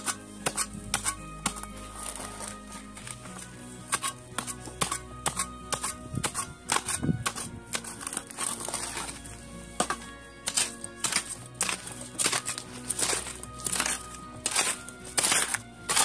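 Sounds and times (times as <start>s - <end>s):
background music held notes: 0.0s - 16.0s
shovel digging dry soil: 0.0s - 16.0s.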